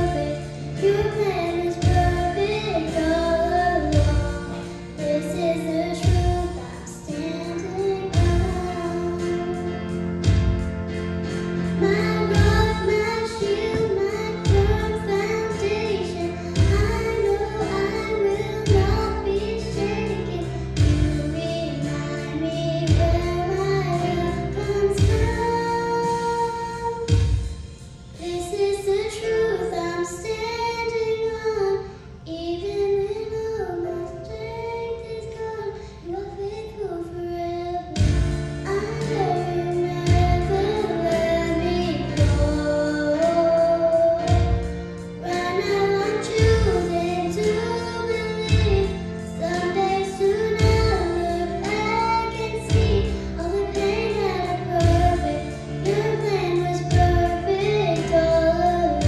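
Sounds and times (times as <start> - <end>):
girl singing into microphone: 0.0 - 10.6, 11.2 - 59.0
instrumental accompaniment: 0.0 - 36.5, 37.2 - 59.0.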